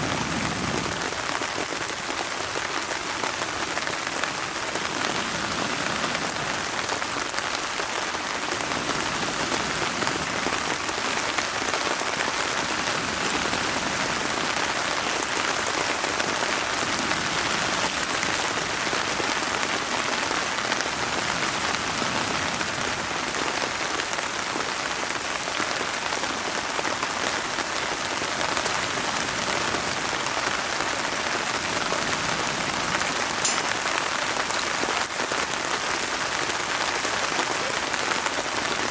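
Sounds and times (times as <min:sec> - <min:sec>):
steady rain falling: 0:00.0 - 0:38.9
wood fire crackling: 0:00.0 - 0:38.9.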